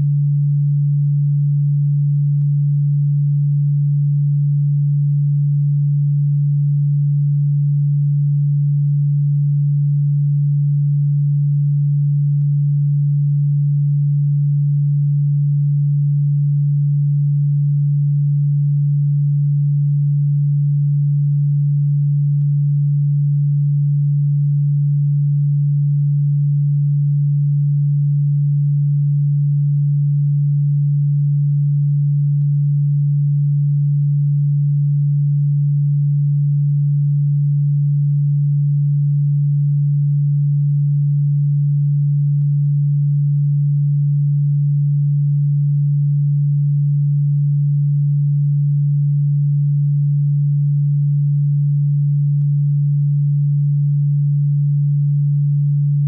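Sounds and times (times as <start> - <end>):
low electronic sine tone: 0.0 - 56.0.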